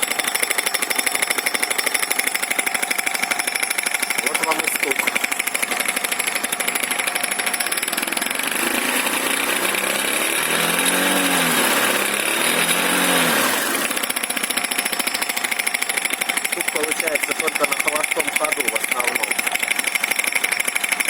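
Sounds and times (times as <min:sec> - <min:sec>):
scooter engine idling and revving: 0:00.0 - 0:21.0.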